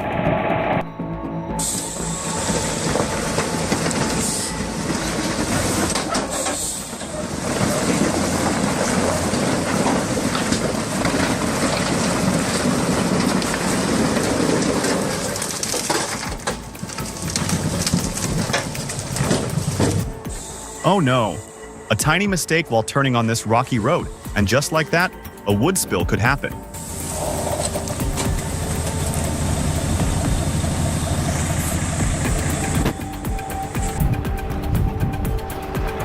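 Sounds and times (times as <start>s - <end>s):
heavy truck rumbling: 0.0s - 22.7s, 23.3s - 36.0s
truck rattling and clattering: 1.6s - 20.7s, 23.8s - 36.0s.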